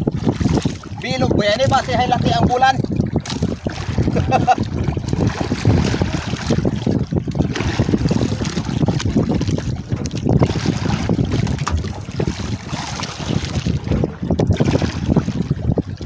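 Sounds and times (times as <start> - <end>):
water noise: 0.0 - 16.0
wind buffeting microphone: 0.0 - 16.0.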